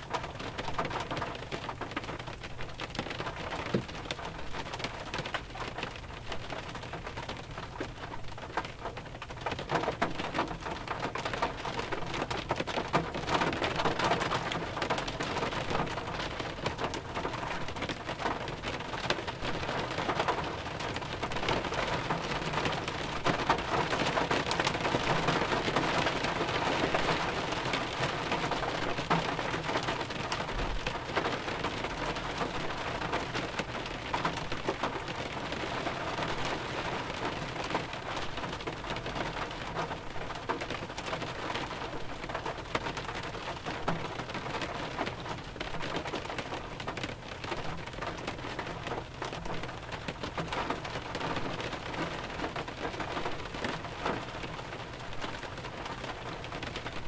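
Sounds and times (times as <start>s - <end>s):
light rain on a car body: 0.0s - 57.0s.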